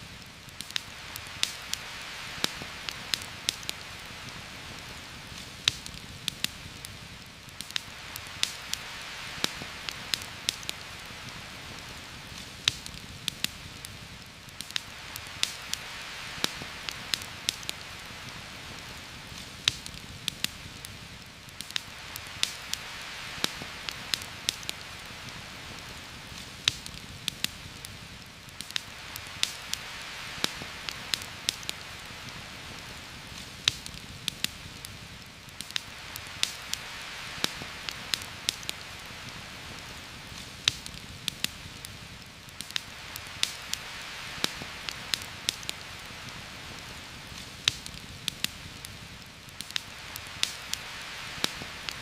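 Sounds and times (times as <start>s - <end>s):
campfire crackling and popping: 0.0s - 52.0s
heavy rain hissing: 0.0s - 52.0s.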